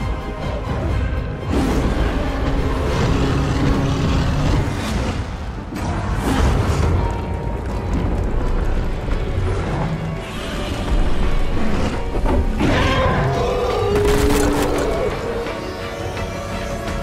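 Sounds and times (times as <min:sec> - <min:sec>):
dramatic action music: 0:00.0 - 0:17.0.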